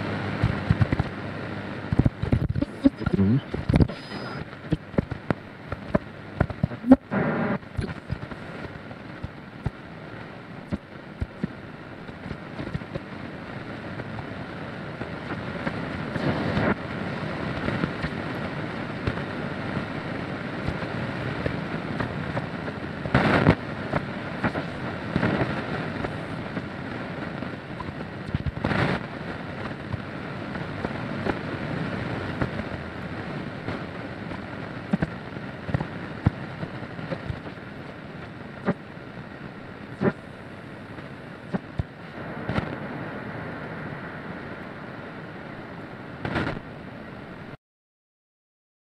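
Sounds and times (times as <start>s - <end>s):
radio static hiss: 0.0s - 47.6s.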